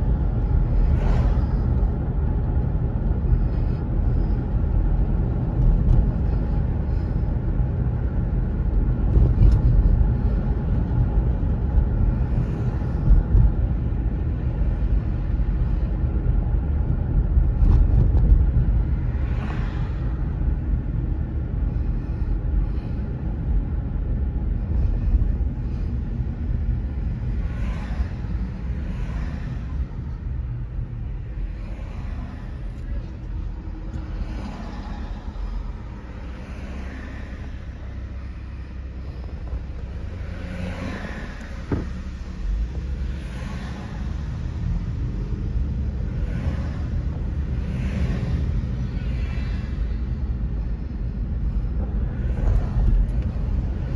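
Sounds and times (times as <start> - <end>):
car cabin road rumble: 0.0 - 53.9.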